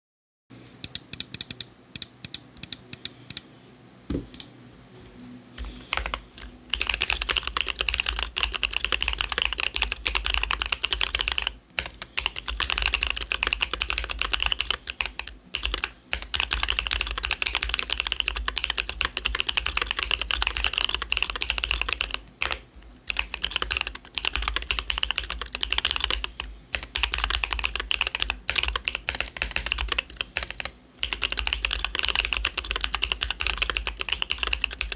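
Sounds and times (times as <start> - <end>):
mechanical keyboard typing: 5.9 - 34.9.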